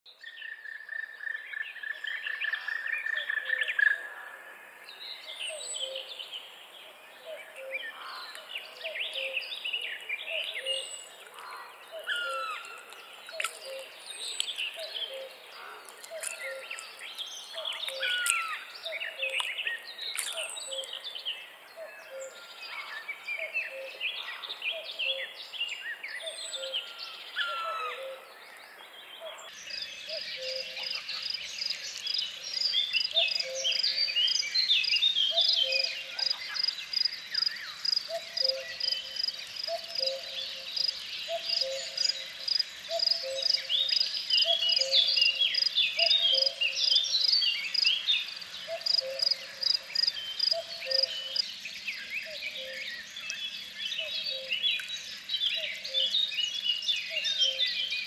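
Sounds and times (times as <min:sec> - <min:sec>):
songbirds singing: 0:00.1 - 0:58.0.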